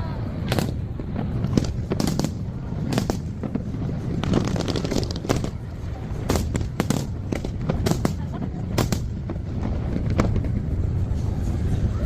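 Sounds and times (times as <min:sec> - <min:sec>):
fireworks crackling: 0:00.0 - 0:12.0
low rumble: 0:00.0 - 0:12.0
firework bangs: 0:00.2 - 0:11.6.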